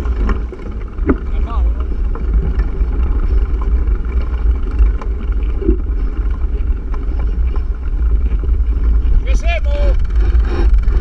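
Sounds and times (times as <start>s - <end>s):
bike knocks and rattles: 0.0s - 11.0s
wind buffeting microphone: 0.0s - 11.0s.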